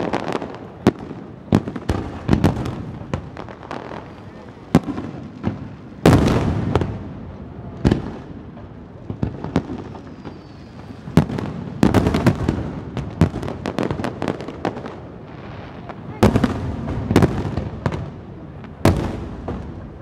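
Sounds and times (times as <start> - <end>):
firework crackles: 0.0 - 20.0.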